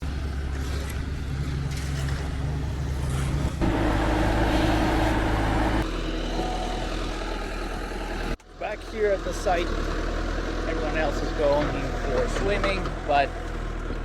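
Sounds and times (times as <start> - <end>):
construction machinery engine running: 0.0 - 14.0.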